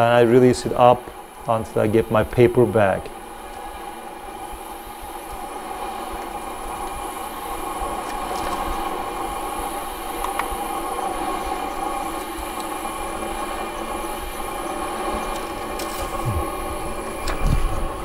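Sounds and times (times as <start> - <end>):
mechanical hum of mill: 0.0 - 18.0.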